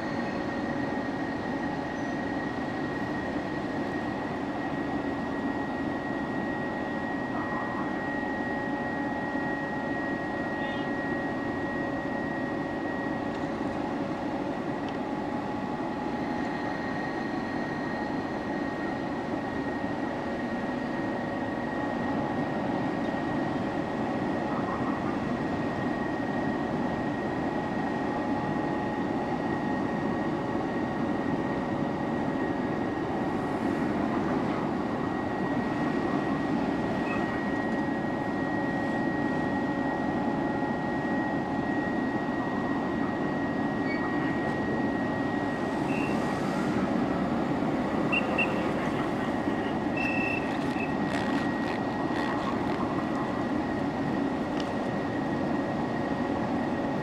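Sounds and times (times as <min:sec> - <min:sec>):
ship machinery drone: 0:00.0 - 0:57.0.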